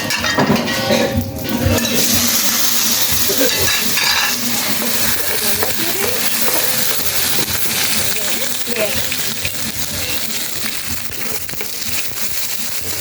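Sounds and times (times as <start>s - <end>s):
okra sizzling in a pot: 0.0s - 13.0s.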